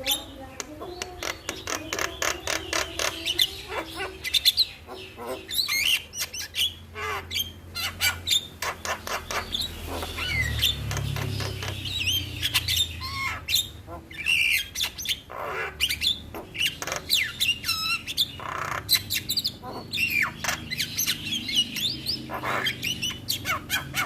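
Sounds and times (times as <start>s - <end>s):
mynas chattering and whistling: 0.0s - 24.0s.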